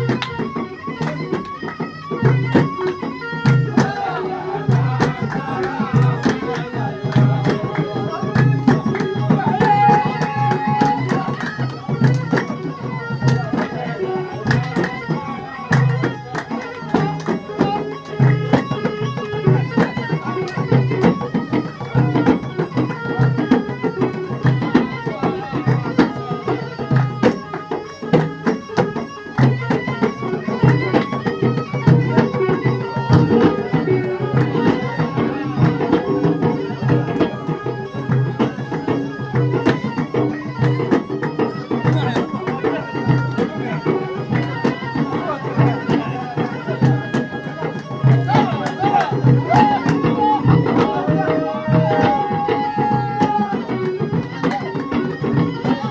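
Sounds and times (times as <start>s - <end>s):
held melody line: 0.0s - 55.9s
drums beating fast rhythm: 2.2s - 55.9s.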